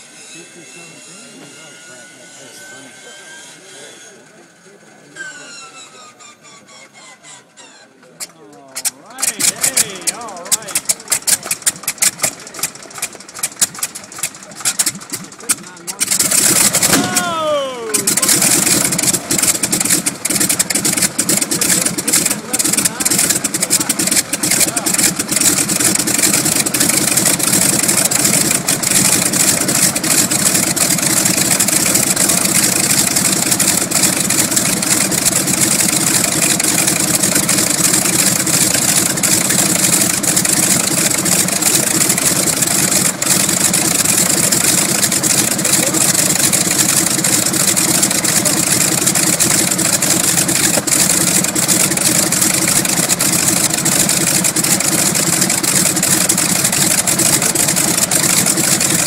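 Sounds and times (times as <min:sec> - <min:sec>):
radial aircraft engine running: 0:08.2 - 0:59.0.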